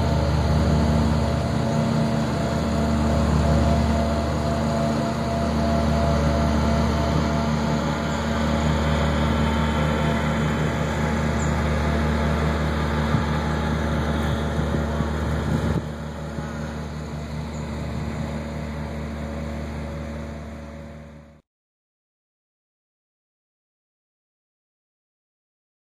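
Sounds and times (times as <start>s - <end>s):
vehicle engine humming: 0.0s - 21.4s.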